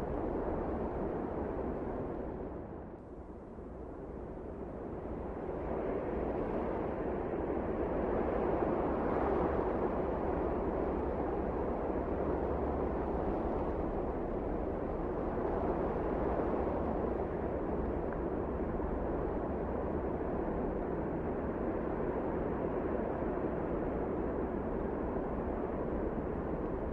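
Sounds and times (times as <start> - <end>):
wind blowing in a snowstorm: 0.0 - 26.9.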